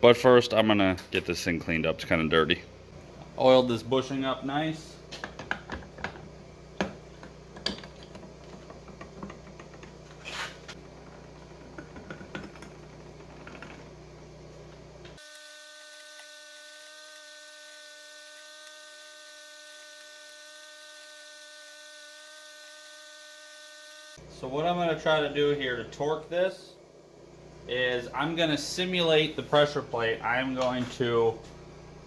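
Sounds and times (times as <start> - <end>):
steady electric whine: 0.0 - 32.0.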